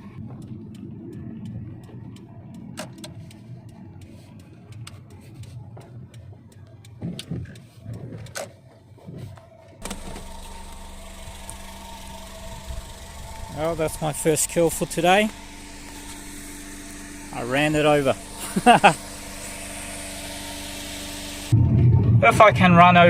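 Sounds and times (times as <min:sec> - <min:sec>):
engine idling hum: 0:00.0 - 0:23.0
low road rumble: 0:00.0 - 0:23.0.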